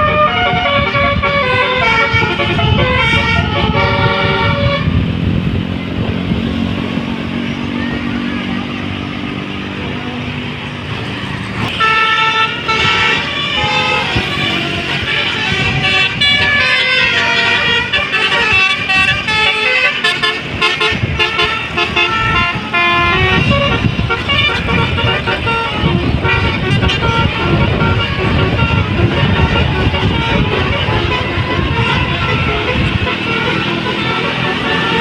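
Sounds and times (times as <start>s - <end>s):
multi-tone bus horn melody: 0.0s - 6.4s, 11.6s - 35.0s
engine and road noise: 0.0s - 35.0s.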